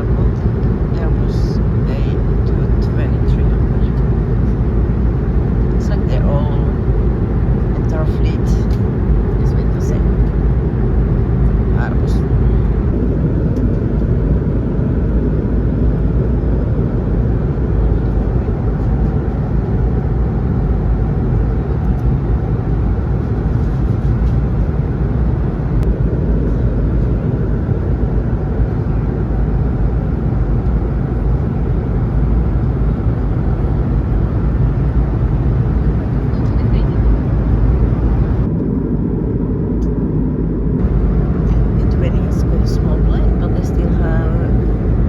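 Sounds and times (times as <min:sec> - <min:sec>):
airliner cabin engine drone: 0:00.0 - 0:45.0.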